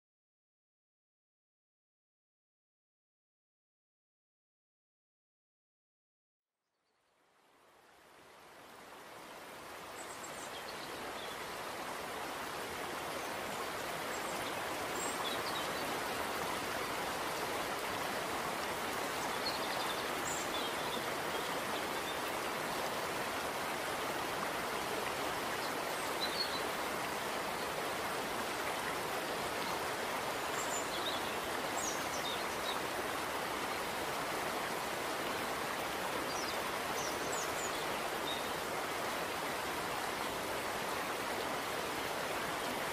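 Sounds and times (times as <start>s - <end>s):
flowing water rushing: 7.2s - 42.9s.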